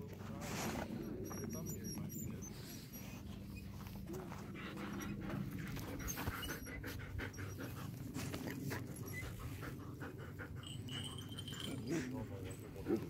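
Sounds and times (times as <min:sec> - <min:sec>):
dog panting quickly: 0:00.6 - 0:13.0.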